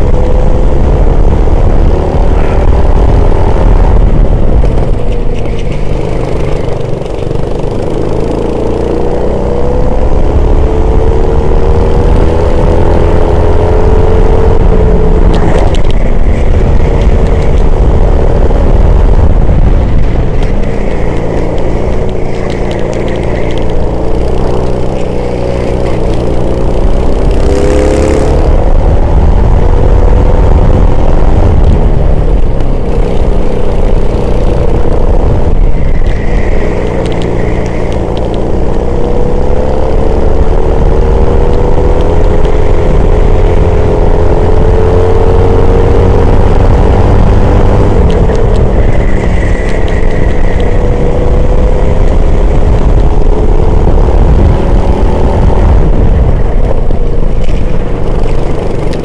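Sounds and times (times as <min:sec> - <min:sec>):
high-pitched squeal: 0:00.0 - 0:59.0
racing engine at high revs: 0:00.0 - 0:59.0.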